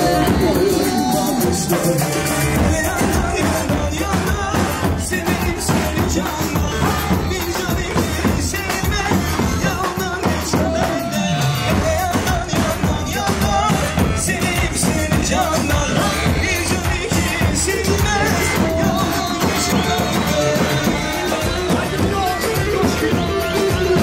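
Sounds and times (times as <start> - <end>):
bass drums beaten fast: 0.0 - 24.0.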